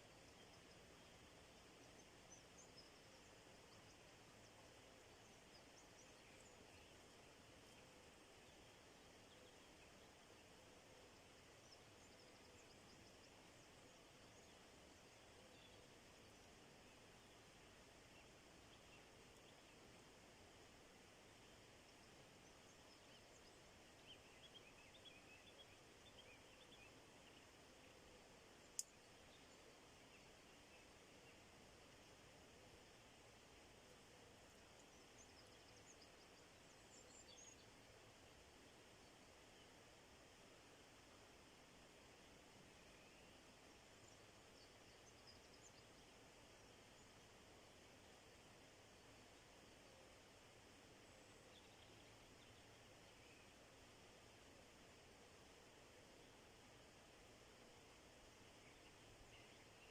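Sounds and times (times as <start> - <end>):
distant small birds chirping: 0.0 - 59.9
steady background hiss: 0.0 - 59.9.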